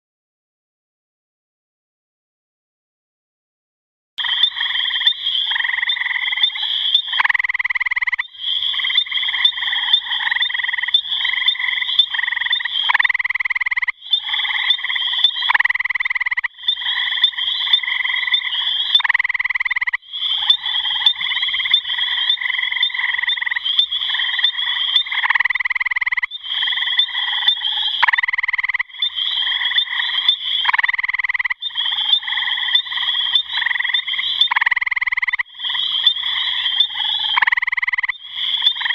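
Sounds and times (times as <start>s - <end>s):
frog trilling: 4.2s - 38.9s.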